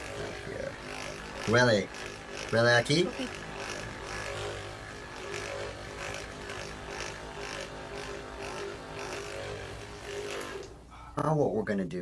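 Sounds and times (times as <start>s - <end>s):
massager motor buzzing: 0.0s - 11.0s.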